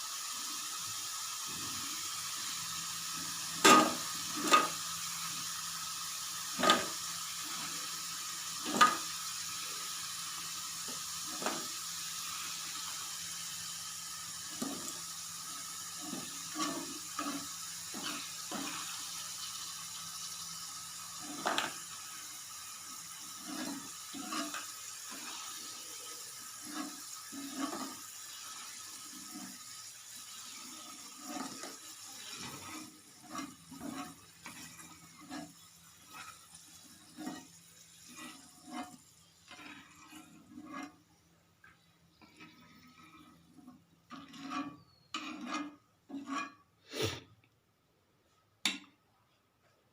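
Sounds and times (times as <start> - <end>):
food deep-frying in oil: 0.0 - 47.2.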